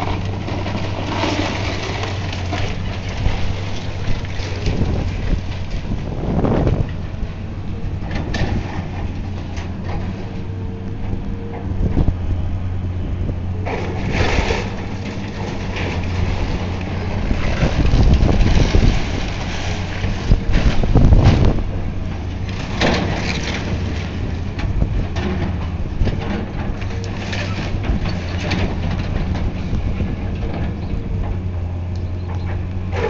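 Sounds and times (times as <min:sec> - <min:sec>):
demolition machine engine droning: 0:00.0 - 0:33.0.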